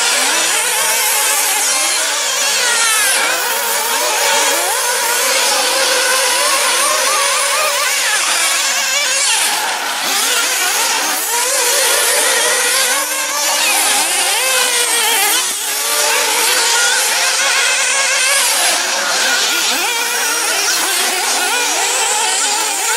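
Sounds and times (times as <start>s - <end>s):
rc buggy engines whining: 0.0s - 22.9s.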